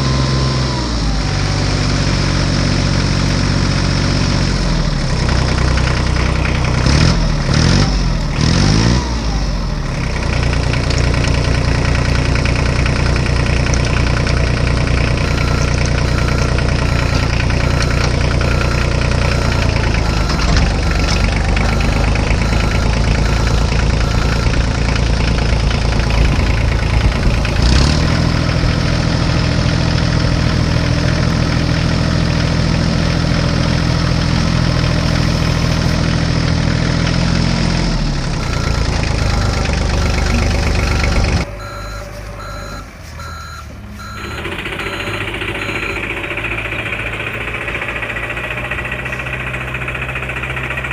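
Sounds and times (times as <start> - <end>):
engine revving and running: 0.0 - 50.9.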